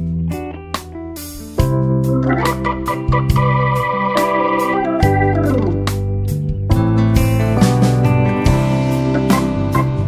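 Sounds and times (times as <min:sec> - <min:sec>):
organ-like keyboard chords: 0:00.0 - 0:10.0
strong bass: 0:00.0 - 0:10.0.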